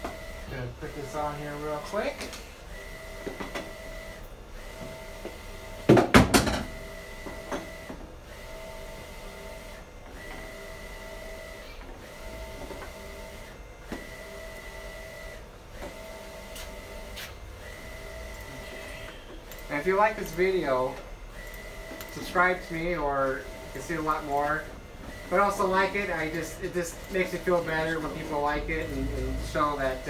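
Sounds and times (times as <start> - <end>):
printer carriage whirring: 0.0 - 30.0.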